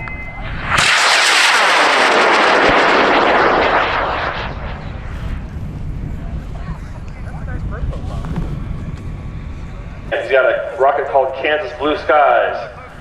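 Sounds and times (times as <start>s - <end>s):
rocket motor exhaust roar: 0.4s - 13.0s.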